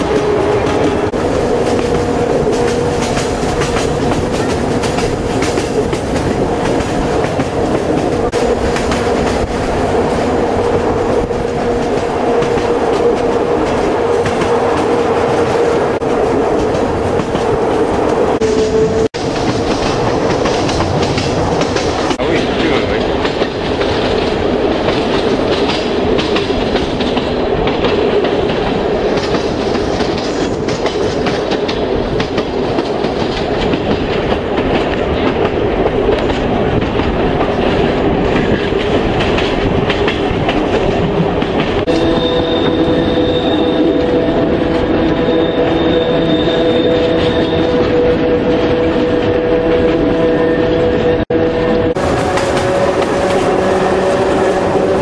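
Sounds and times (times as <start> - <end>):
clickety-clack of rail joints: 0.0 - 51.2, 51.9 - 55.0
train wheels rumbling on rail: 0.0 - 55.0.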